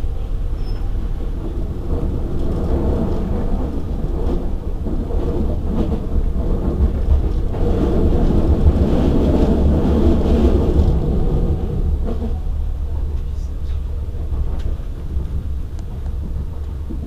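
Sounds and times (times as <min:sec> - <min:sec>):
stationary electric train rumble: 0:00.0 - 0:17.0
wind buffeting microphone: 0:00.0 - 0:17.0.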